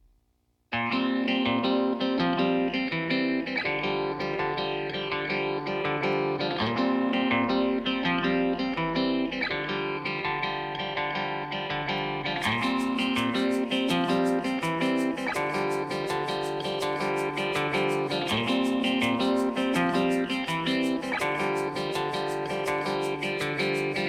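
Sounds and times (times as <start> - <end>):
upbeat guitar music: 0.7 - 24.0.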